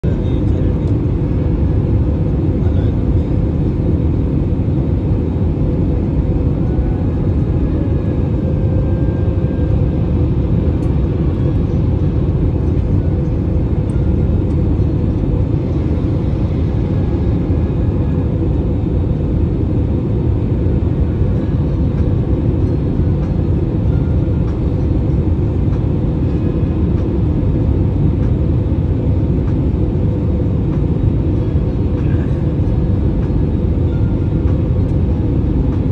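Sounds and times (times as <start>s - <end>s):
aircraft cabin rumble: 0.0s - 35.9s.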